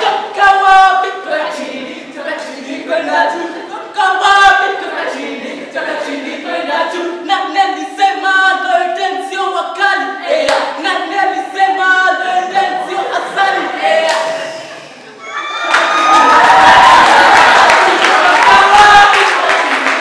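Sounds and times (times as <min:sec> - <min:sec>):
group singing a cappella: 0:00.0 - 0:15.2, 0:16.7 - 0:20.0.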